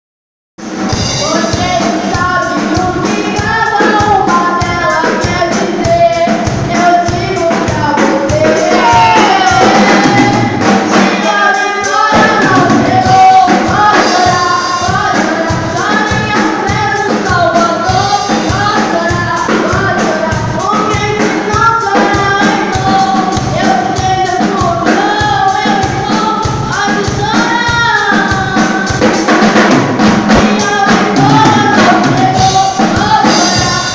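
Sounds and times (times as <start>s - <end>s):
steady drum beat: 0.6s - 33.9s
young voices singing worship song: 0.7s - 33.9s.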